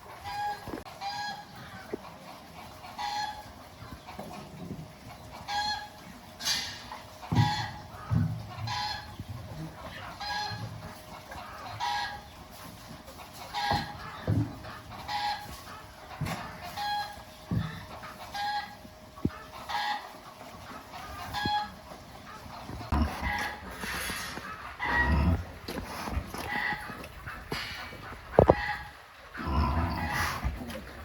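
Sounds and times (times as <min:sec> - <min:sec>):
chicken clucking: 0:00.0 - 0:31.0.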